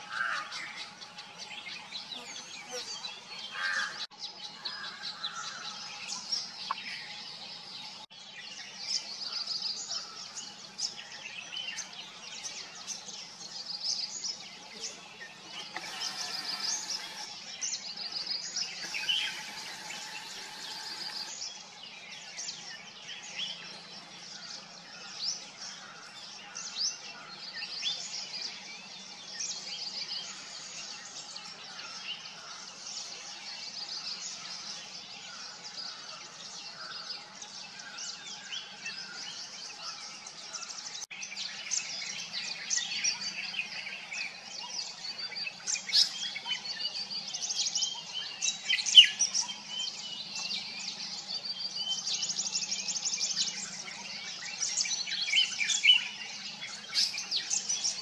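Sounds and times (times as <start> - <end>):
small birds twittering: 0.0 - 58.0.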